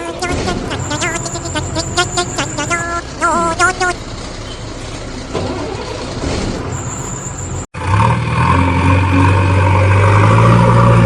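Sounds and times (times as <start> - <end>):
noisy engine rumble: 0.0 - 11.0.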